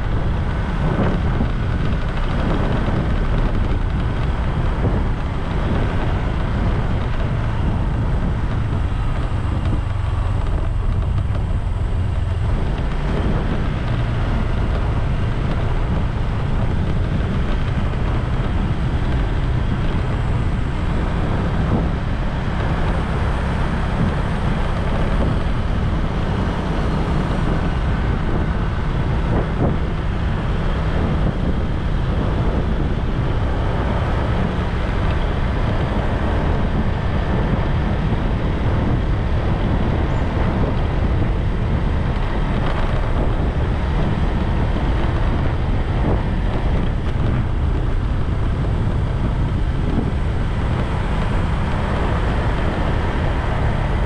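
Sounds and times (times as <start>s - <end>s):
bike road noise: 0.0s - 54.0s
wind on microphone: 0.0s - 54.0s.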